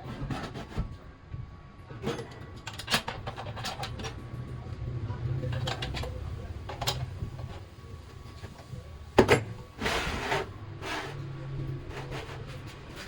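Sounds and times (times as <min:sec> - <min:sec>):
low steady hum: 0:01.3 - 0:13.0.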